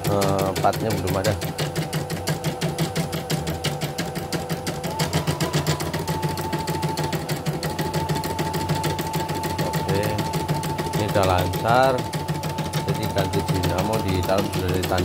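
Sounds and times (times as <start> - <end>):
embroidery machine stitching: 0.0 - 15.0
machine motor whine: 0.0 - 15.0.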